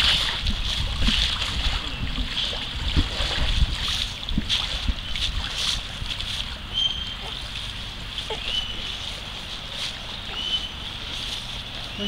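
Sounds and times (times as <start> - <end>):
water splashing against ball: 0.0 - 11.5
wind rumbling on microphone: 0.0 - 12.0.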